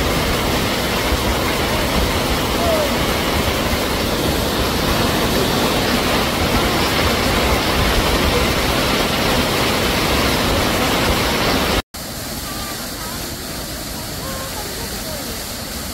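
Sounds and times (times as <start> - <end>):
waterfall roaring: 0.0 - 15.9.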